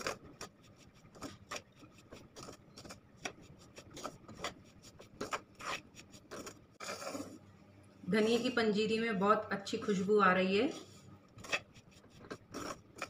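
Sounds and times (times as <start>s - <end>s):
metal spoon scraping dry mixture: 0.0s - 7.4s, 8.1s - 13.0s.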